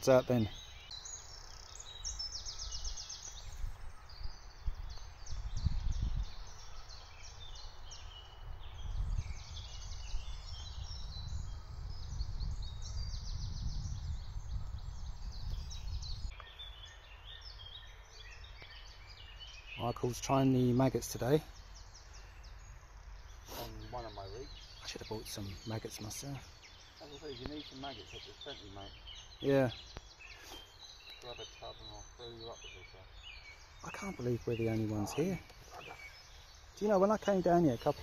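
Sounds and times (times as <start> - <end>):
birds chirping and trilling: 0.0 - 38.0.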